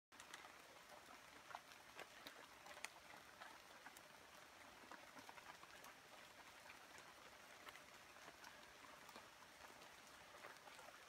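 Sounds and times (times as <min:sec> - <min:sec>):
water drops pattering on leaves: 0:00.2 - 0:11.0.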